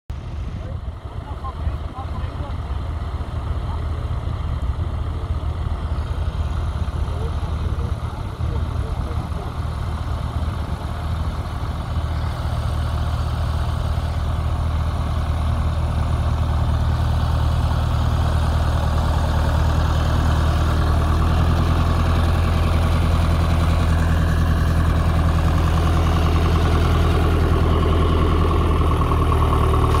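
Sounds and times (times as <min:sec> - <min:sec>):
tractor engine running: 0:00.1 - 0:30.0.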